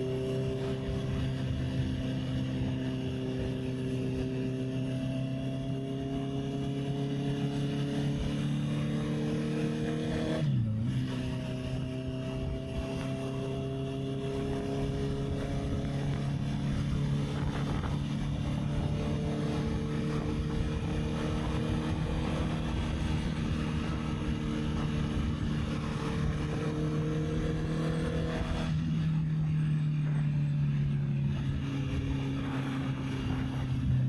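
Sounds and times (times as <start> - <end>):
wind rumbling on microphone: 0.0 - 8.6, 9.7 - 34.0
motorcycle engine cruising: 0.0 - 34.0.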